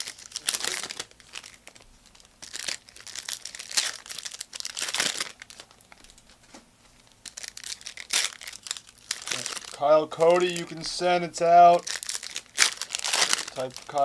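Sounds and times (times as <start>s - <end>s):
wrappers crinkling and tearing: 0.0s - 6.5s, 7.2s - 14.0s.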